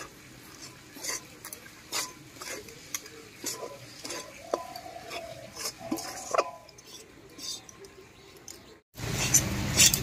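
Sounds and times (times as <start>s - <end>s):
metal spatula scraping a wok: 0.0s - 10.0s.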